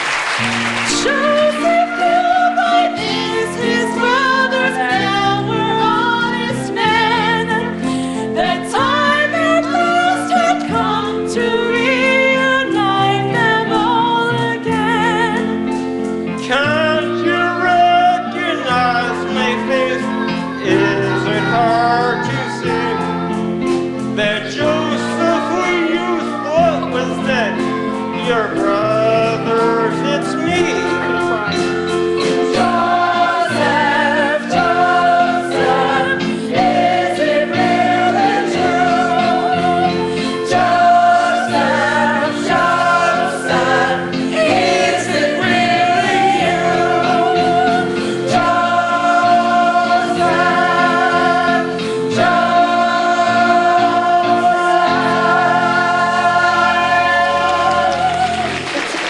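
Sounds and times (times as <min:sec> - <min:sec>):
pit orchestra: 0:00.0 - 0:59.0
singers with vibrato: 0:00.9 - 0:15.8, 0:16.4 - 0:58.6.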